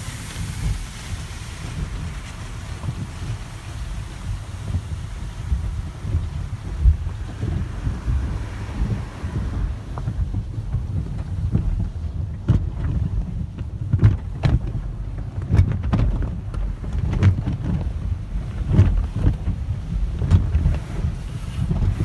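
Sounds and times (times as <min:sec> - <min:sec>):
cloth brushes slapping car panels: 0:00.0 - 0:22.0
water rushing against car body: 0:00.0 - 0:22.0.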